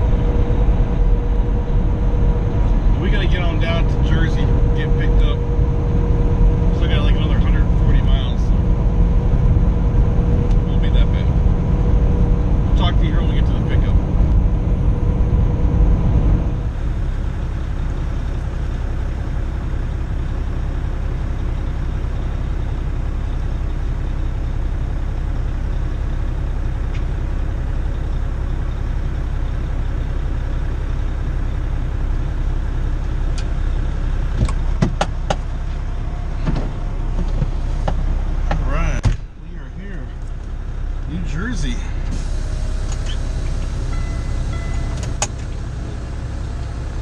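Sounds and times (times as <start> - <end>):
road noise: 0.0 - 47.0
truck diesel engine running: 0.0 - 47.0.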